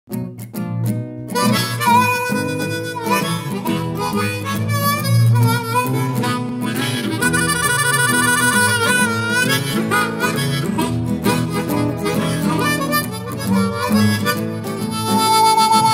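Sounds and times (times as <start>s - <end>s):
blues harmonica music: 0.1s - 15.9s.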